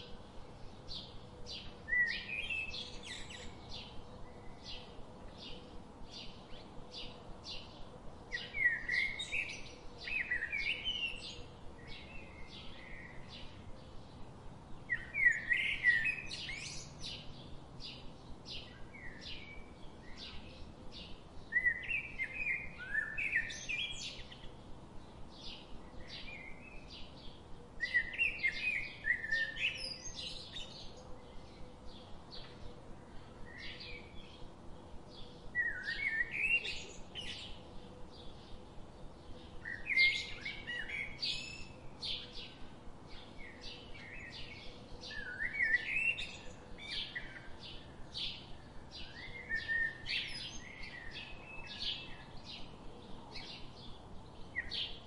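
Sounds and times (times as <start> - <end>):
bird song with gliding chirps: 0.0 - 55.0.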